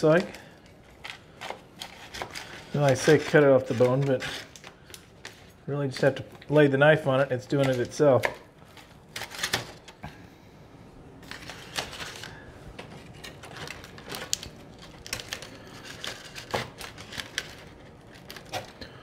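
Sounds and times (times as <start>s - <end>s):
aluminium foil crinkling: 0.0s - 6.4s, 7.3s - 10.0s, 11.2s - 19.0s.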